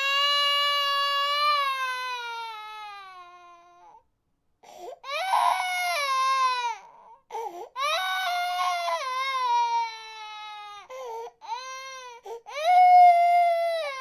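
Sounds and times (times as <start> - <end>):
baby crying: 0.0 - 4.0, 5.0 - 14.0.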